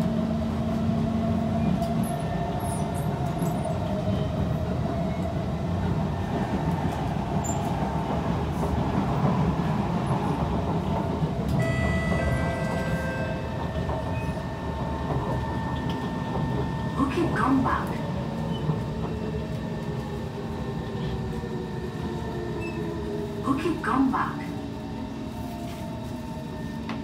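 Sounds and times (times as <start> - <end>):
passing train: 0.0 - 27.0
train wheels rumbling on track: 0.0 - 27.0.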